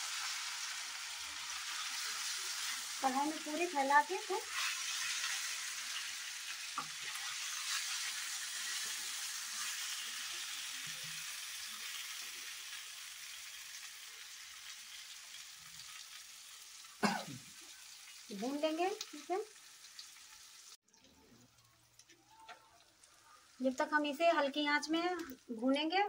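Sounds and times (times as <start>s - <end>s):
batter sizzling in hot oil: 0.0s - 26.0s.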